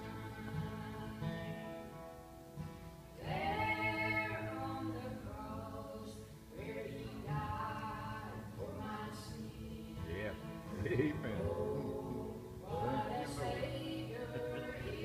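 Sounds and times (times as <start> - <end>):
women singing a hymn: 0.0 - 1.7, 3.2 - 15.0
acoustic guitar: 0.0 - 15.0.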